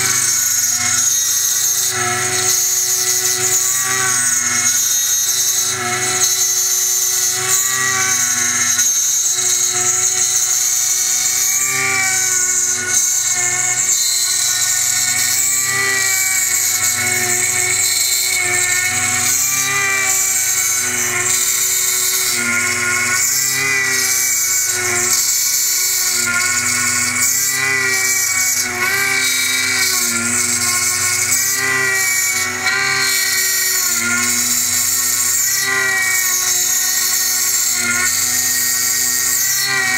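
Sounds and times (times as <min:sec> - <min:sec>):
milling machine spindle whine: 0:00.0 - 0:39.9.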